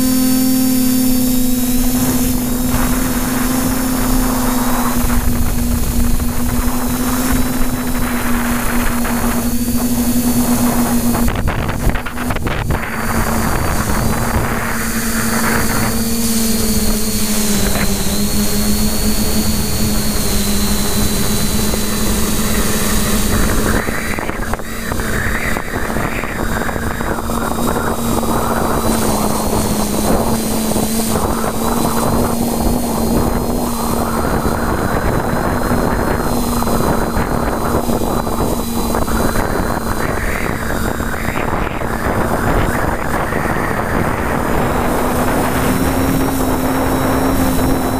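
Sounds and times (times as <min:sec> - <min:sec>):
drone propellers humming: 0:00.0 - 0:47.9
wind rushing over microphone: 0:00.0 - 0:47.9.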